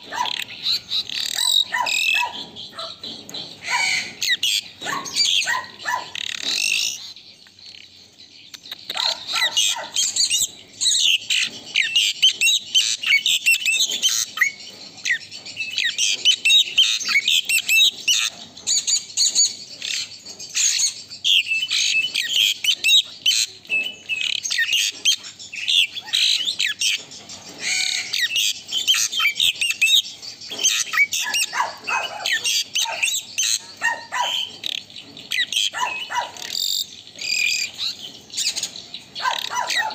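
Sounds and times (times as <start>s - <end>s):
starling singing chattering whistles: 0.0s - 39.9s.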